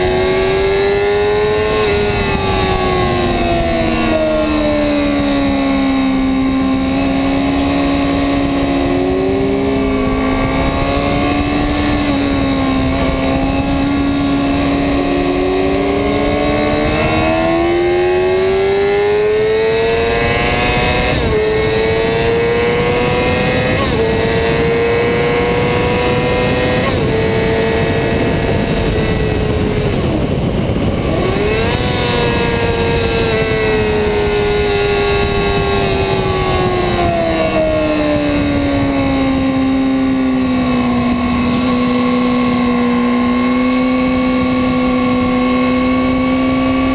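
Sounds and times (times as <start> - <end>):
motorcycle engine at high revs: 0.0 - 46.9
wind noise: 0.0 - 46.9.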